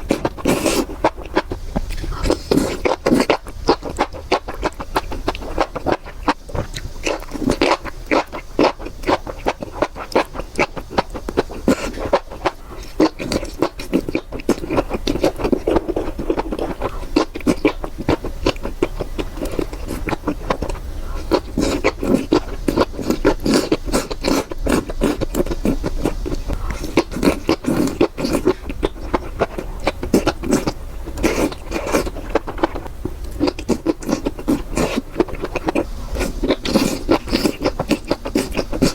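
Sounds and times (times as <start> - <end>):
food being chewed and crunched: 0.0 - 38.9.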